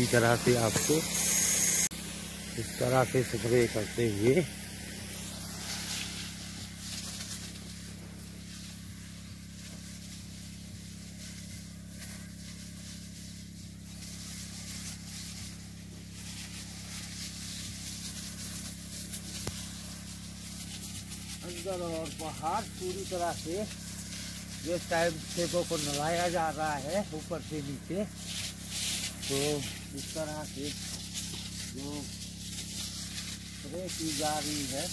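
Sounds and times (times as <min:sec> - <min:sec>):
hiss of spray mist: 0:00.0 - 0:34.9
low mechanical hum: 0:00.0 - 0:34.9.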